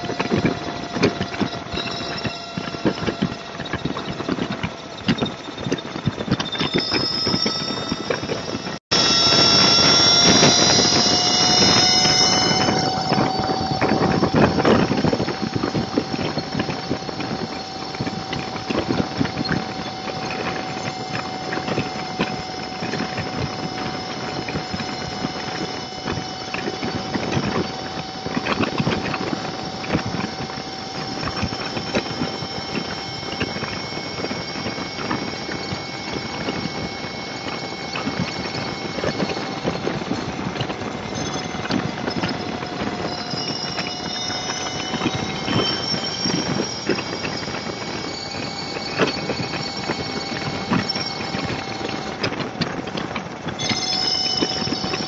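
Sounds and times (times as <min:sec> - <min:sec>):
motorcycle engine whine: 0:00.0 - 0:55.0.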